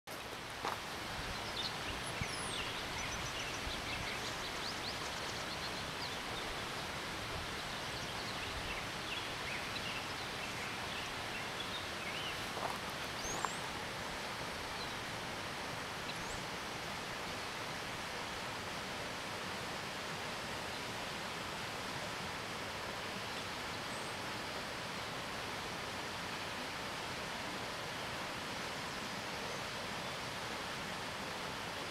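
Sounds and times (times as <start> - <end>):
rushing outdoor background noise: 0.1 - 31.9.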